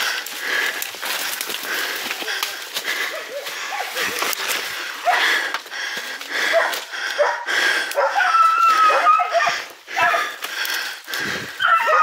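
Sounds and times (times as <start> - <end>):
leaves and branches crackling: 0.0 - 12.0
man breathing hard and wheezing: 0.0 - 12.0.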